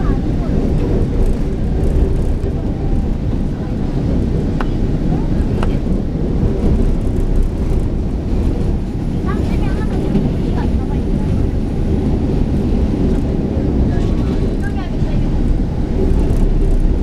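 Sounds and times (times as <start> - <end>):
train car rumbling on rails: 0.0 - 17.0.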